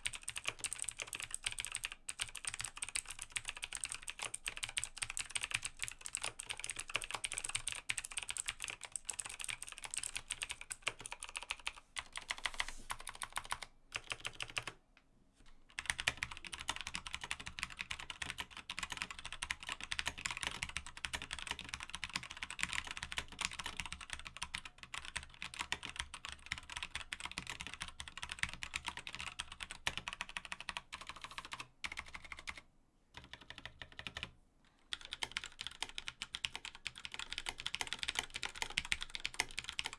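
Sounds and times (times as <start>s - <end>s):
fast typing on mechanical keyboard: 0.0s - 14.8s, 15.7s - 32.6s, 33.2s - 34.3s, 34.9s - 39.9s.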